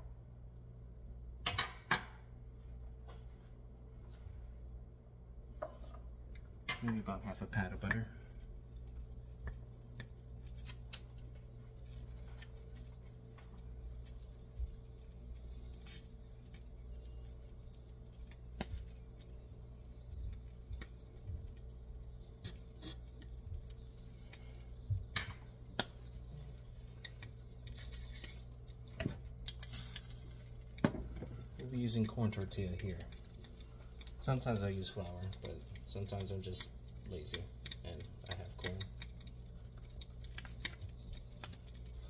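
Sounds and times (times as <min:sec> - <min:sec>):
low steady hum: 0:00.0 - 0:42.0
butter crackling in a pan: 0:05.8 - 0:42.0.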